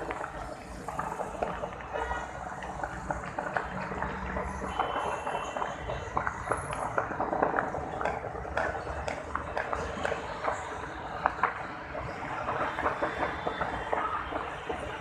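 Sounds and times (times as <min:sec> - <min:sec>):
fireworks popping and cracking: 0:00.0 - 0:15.0.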